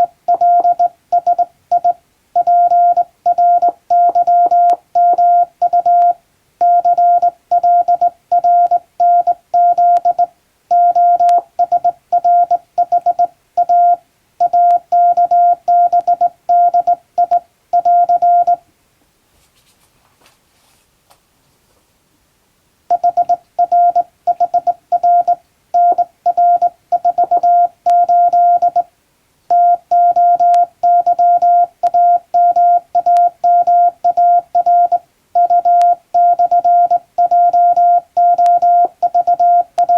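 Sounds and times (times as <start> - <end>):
morse code beeps: 0.0 - 18.6, 22.9 - 28.9, 29.5 - 39.9.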